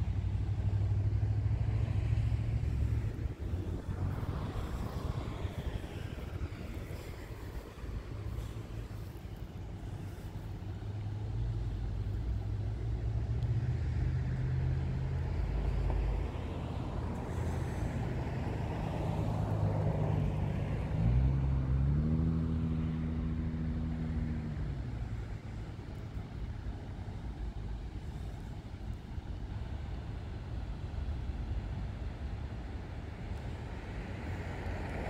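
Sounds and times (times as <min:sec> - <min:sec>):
vehicle engine running: 0:00.0 - 0:32.8.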